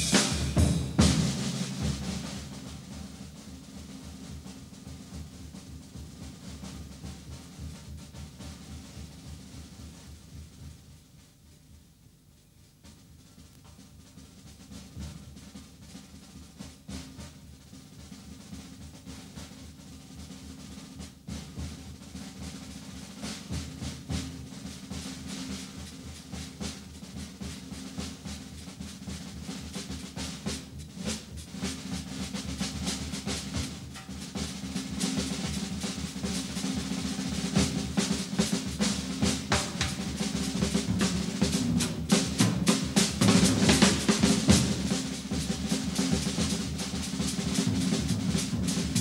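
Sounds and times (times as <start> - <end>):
jazz drum solo: 0.0 - 49.0.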